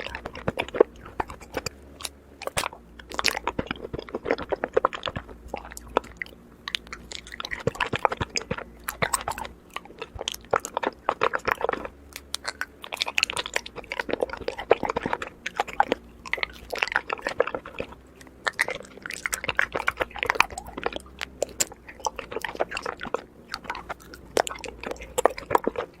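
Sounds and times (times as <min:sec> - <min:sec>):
honeycomb crunching when chewed: 0:00.0 - 0:26.0.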